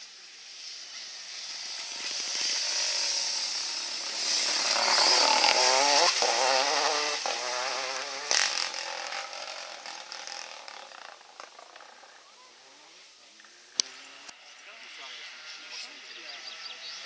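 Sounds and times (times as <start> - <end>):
rally car engine passing: 0.3 - 17.0.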